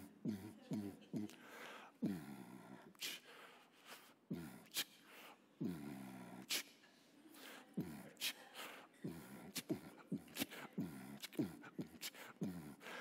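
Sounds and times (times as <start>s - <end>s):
sharp mouth clicks: 0.0s - 3.3s, 4.3s - 6.8s, 7.4s - 13.0s.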